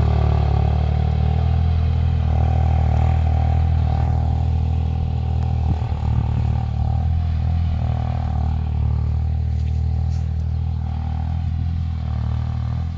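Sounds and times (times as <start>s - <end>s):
tractor engine under load: 0.0s - 12.9s.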